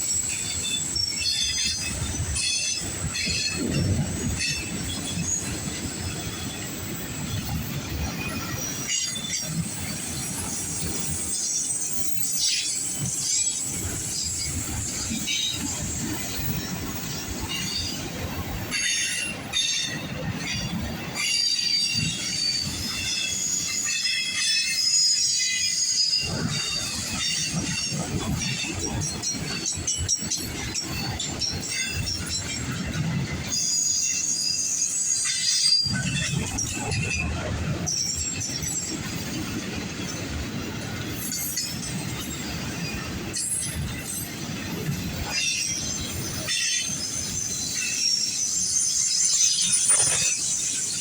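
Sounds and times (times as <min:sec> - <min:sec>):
low rumble of rolling freight cars: 0:00.0 - 0:51.0
train wheels squealing on rails: 0:00.0 - 0:51.0.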